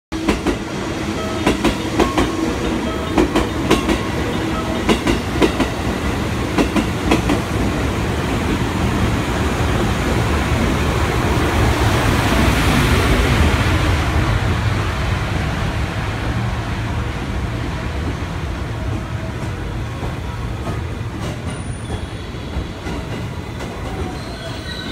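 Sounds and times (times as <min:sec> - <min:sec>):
train rumble: 0:00.1 - 0:24.9.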